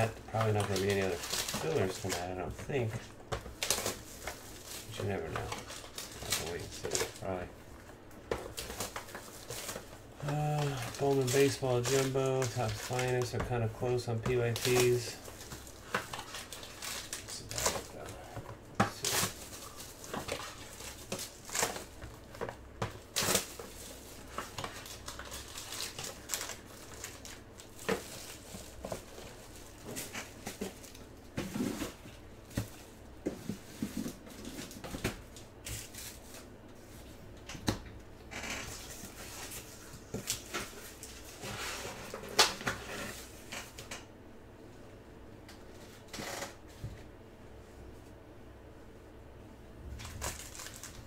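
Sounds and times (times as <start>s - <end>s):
card packaging crinkling and tapping: 0.0s - 36.5s, 38.6s - 42.9s, 50.0s - 51.0s.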